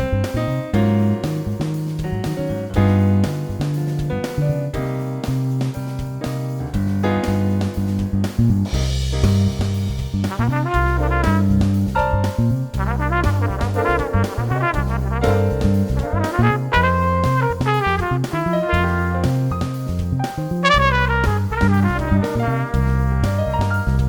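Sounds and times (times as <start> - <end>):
upbeat jazz with brass: 0.0 - 24.0.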